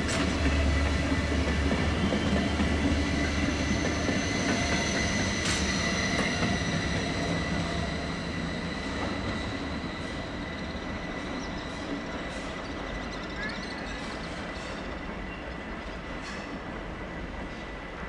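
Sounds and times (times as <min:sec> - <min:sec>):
train wheel rumble: 0:00.0 - 0:18.0
train wheel squeal: 0:00.0 - 0:18.0.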